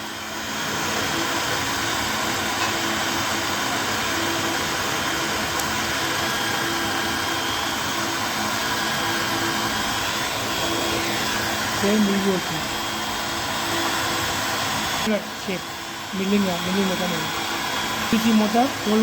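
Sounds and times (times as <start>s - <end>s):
milling machine motors whirring: 0.0s - 19.0s.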